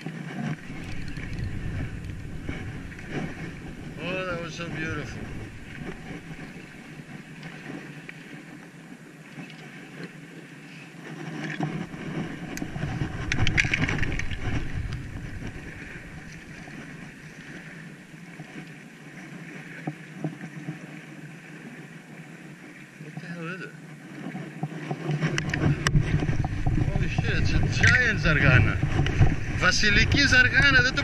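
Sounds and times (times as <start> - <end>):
wind buffeting microphone: 0.0 - 10.2, 11.1 - 22.8, 24.0 - 31.0
water lapping at rocks: 0.0 - 31.0.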